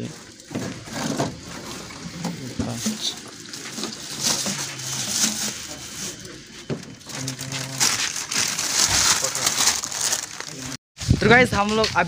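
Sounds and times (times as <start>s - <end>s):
plastic bottles and bag crinkling: 0.0s - 10.8s.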